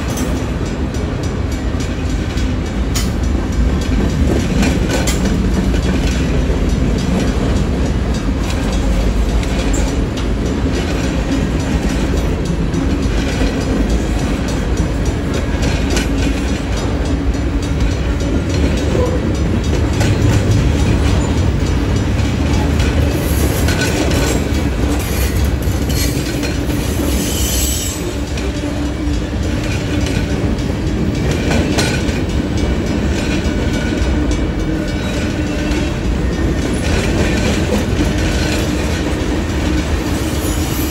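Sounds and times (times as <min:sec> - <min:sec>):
train rumbling past: 0:00.0 - 0:40.9
wheels clicking over rail joints: 0:00.0 - 0:40.9.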